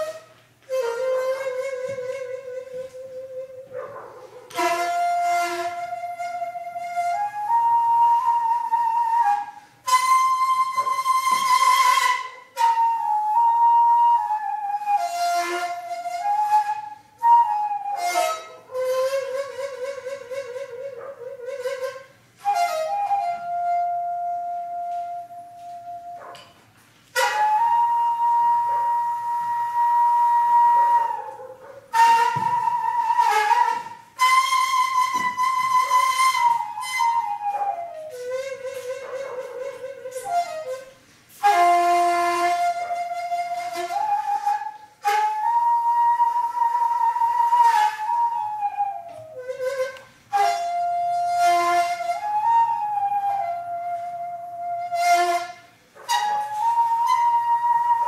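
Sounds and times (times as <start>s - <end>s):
bamboo flute melody: 0.0s - 58.0s.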